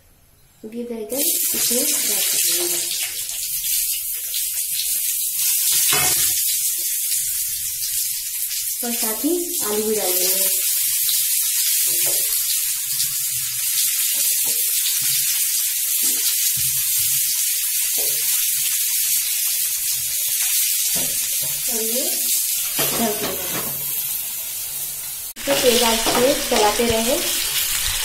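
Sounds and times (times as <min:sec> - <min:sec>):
food sizzling in hot oil: 0:01.1 - 0:28.0.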